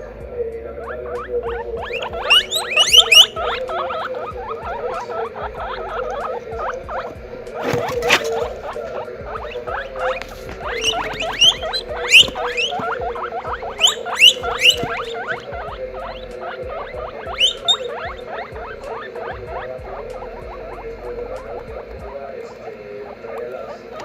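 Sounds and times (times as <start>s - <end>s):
guinea pig wheeking: 0.0s - 24.0s.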